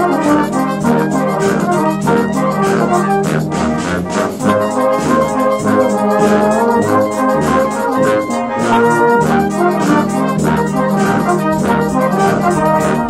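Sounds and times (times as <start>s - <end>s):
brass band playing: 0.0s - 13.0s
drum kit beat: 0.0s - 13.0s.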